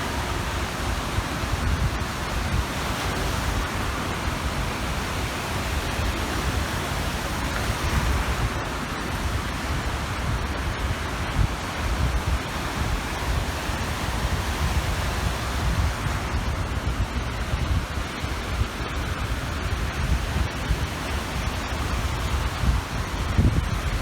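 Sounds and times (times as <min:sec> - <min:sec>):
waves washing onto shore: 0:00.0 - 0:24.0
wind gusting on microphone: 0:00.0 - 0:24.0.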